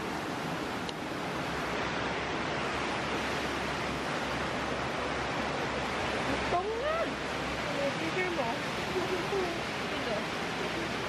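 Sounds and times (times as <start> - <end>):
river rushing through rapids: 0.0 - 11.0.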